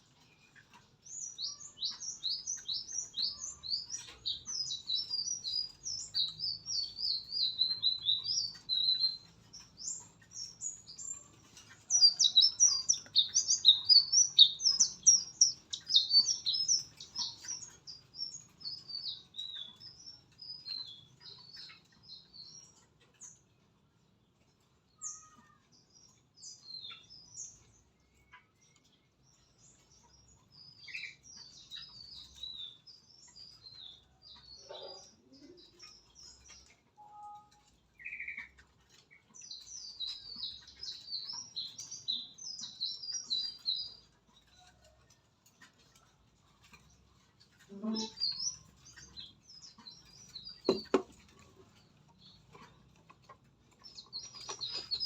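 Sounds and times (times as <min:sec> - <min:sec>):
songbird chirping and twittering: 0:00.0 - 0:55.0.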